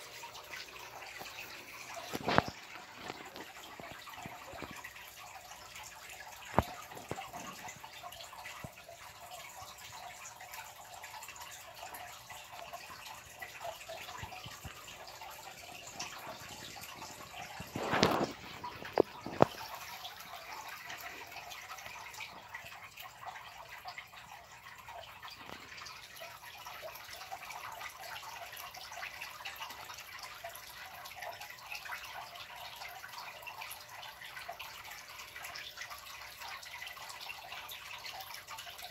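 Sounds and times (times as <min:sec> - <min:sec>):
water bubbling and trickling: 0:00.0 - 0:38.9
water drips: 0:00.0 - 0:38.9.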